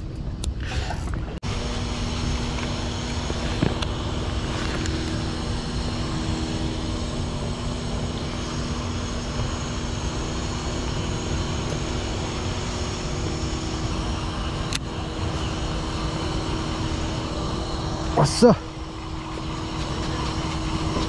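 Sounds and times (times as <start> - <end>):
mechanical drone: 0.0 - 21.0
noise rush: 0.8 - 21.0.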